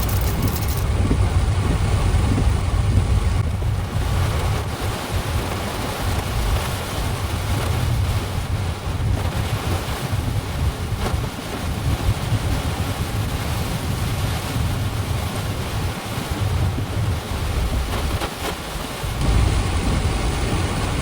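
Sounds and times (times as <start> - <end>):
strong gusting wind on microphone: 0.0 - 21.0.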